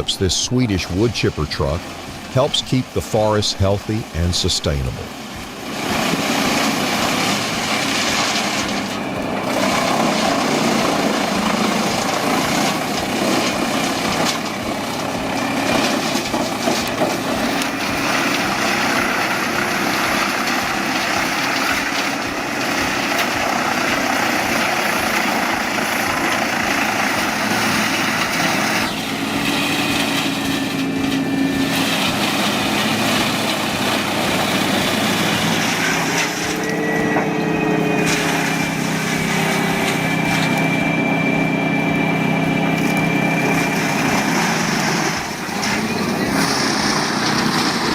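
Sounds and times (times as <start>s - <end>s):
wood chipper chipping timber: 0.0s - 47.9s.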